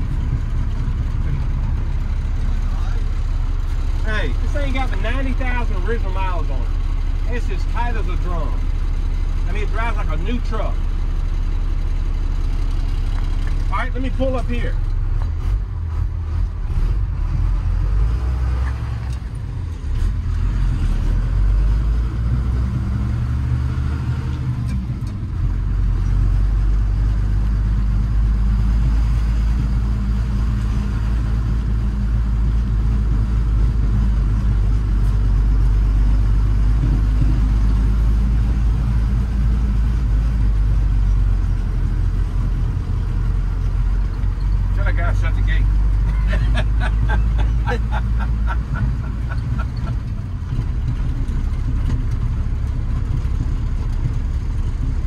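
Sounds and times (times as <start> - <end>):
truck engine running inside cab: 0.0 - 55.0.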